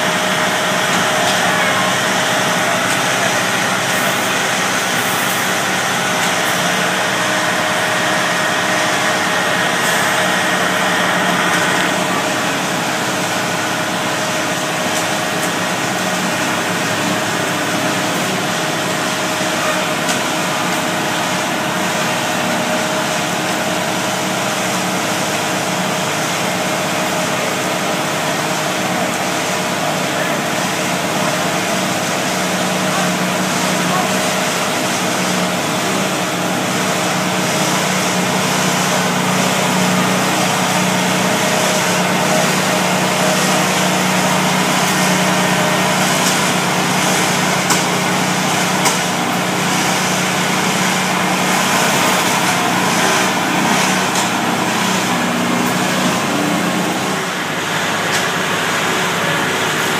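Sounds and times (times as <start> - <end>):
machinery engines humming: 0.0 - 59.9.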